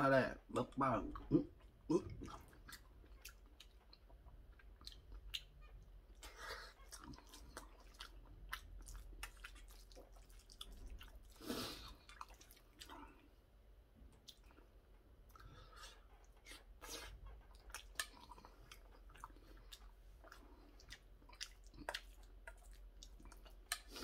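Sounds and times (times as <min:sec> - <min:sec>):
faint chewing and mouth sounds: 0:00.0 - 0:24.0.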